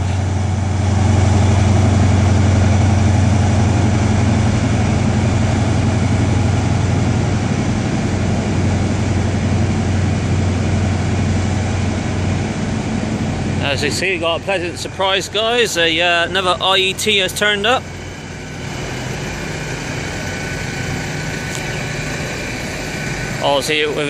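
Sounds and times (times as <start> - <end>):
diesel train engine hum: 0.0 - 24.0.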